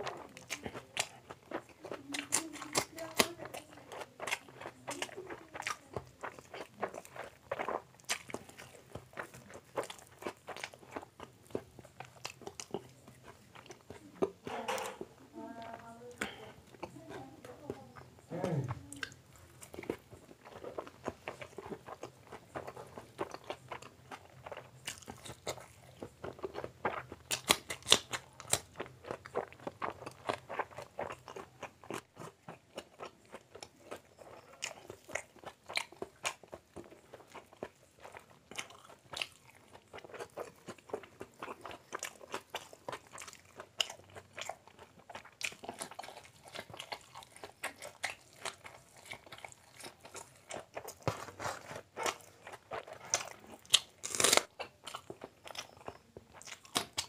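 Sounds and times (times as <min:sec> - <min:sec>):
close-miked wet chewing: 0:00.0 - 0:57.0.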